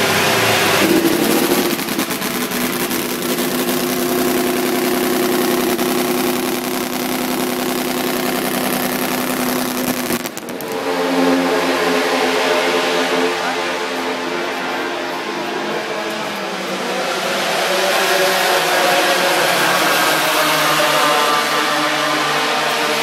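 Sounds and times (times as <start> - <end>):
motorcycle engine running loudly: 0.0 - 23.0.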